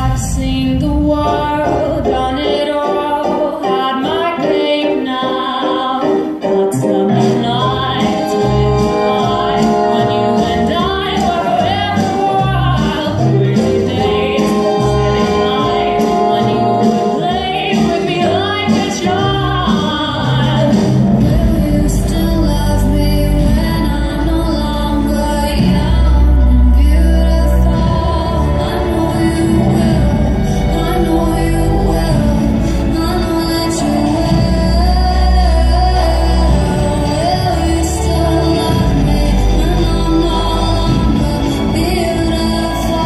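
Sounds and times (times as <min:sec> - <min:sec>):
woman singing: 0:00.0 - 0:43.0.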